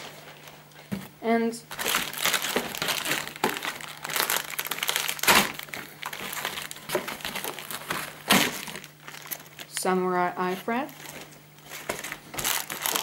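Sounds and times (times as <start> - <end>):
plastic packaging crinkling: 1.7 - 13.0.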